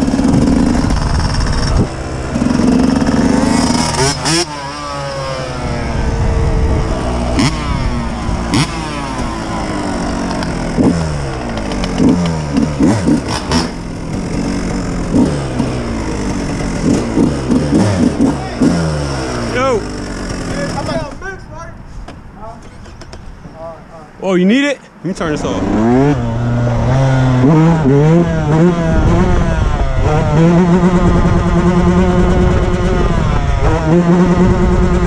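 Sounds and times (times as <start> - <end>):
dirt bike engine revving: 0.0 - 21.2, 25.2 - 35.0.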